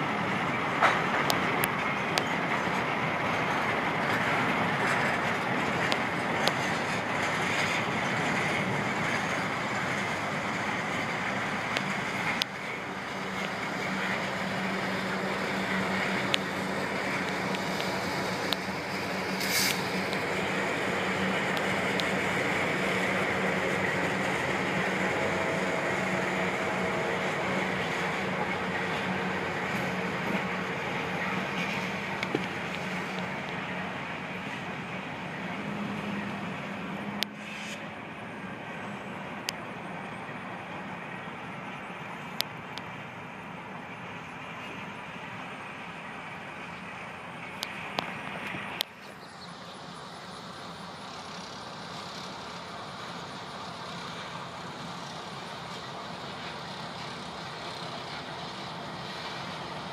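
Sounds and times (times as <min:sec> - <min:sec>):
diesel locomotive engine hum: 0:00.0 - 0:59.9
train wheels rumbling on rail: 0:00.0 - 0:59.9
wheels clicking on rail: 0:00.0 - 0:59.9.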